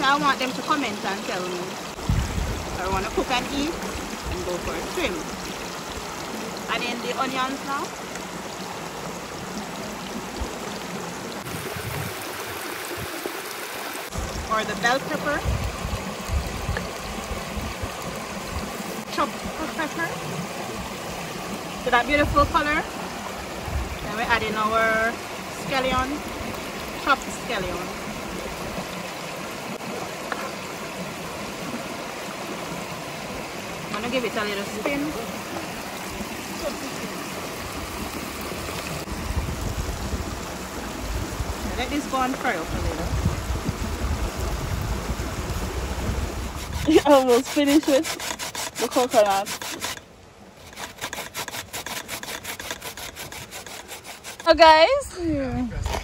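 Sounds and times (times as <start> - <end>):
river flowing: 0.0 - 55.1
water rushing over rocks: 0.0 - 56.0.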